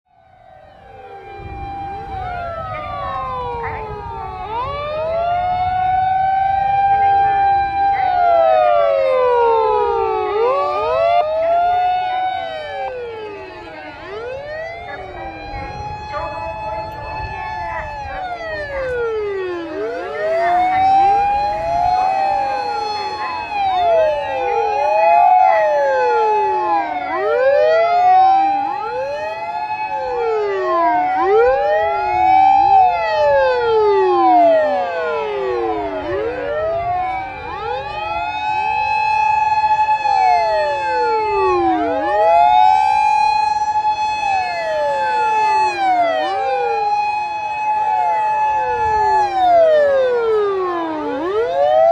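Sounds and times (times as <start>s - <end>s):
fire engine sirens wailing: 0.1s - 51.9s.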